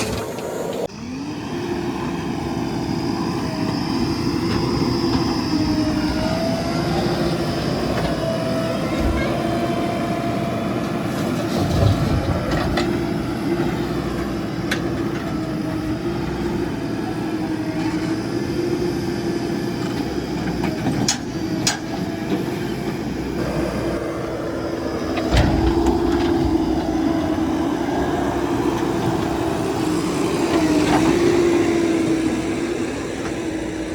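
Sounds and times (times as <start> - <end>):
diesel engine running with whine: 0.0 - 33.9.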